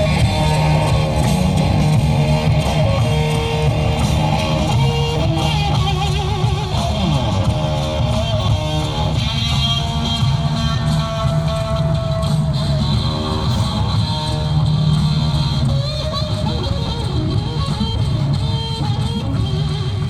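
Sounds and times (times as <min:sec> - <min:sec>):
electric guitar lead line: 0:00.0 - 0:20.0.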